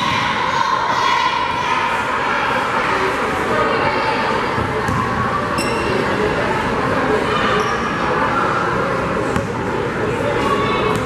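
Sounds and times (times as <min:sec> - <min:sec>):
crowd chatter echoing: 0:00.0 - 0:11.0.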